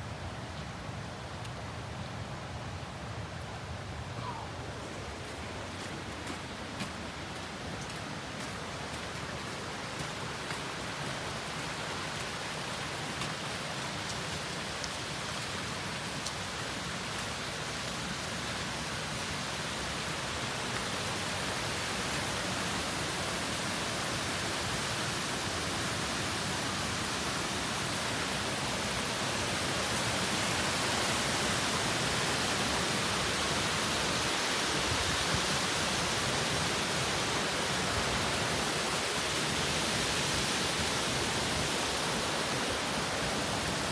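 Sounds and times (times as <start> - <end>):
waterfall rushing hiss: 3.9 - 43.9.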